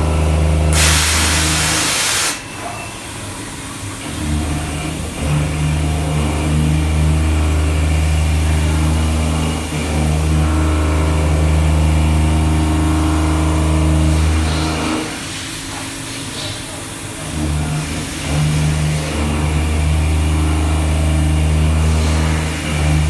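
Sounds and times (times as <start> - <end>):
milling machine hum: 0.0 - 23.0.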